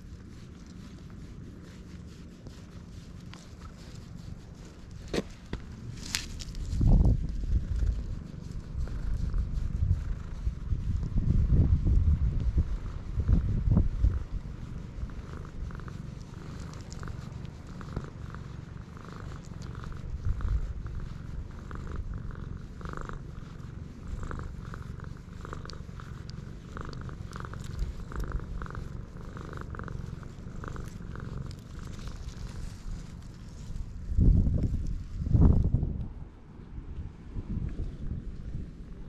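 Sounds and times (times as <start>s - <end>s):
cat purring: 0.0s - 39.0s.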